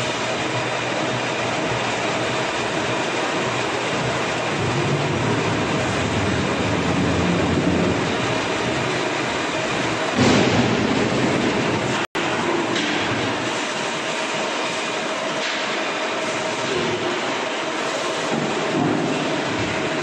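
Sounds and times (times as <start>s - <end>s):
veneer lathe machinery running: 0.0s - 20.0s.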